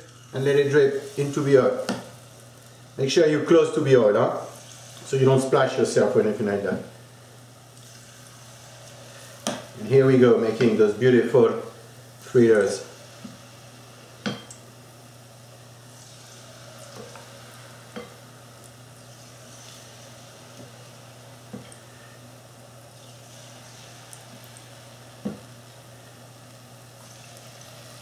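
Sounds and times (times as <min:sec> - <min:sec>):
batter sizzling in oil: 0:00.0 - 0:28.0.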